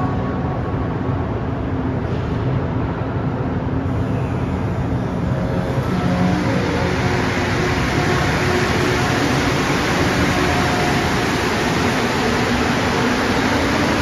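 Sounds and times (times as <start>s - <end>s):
metro train rumbling past: 0.0s - 14.0s.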